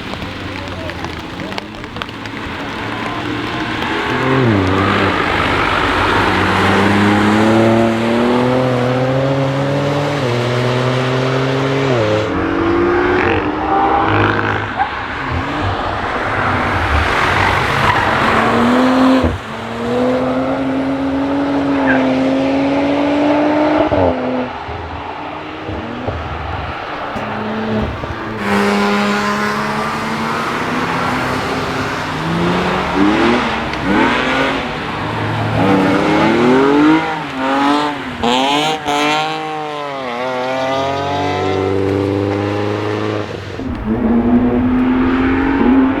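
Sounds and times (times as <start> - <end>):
tyres hissing on wet track: 0.0 - 41.3, 43.3 - 46.0
car engine accelerating and upshifting: 0.0 - 46.0.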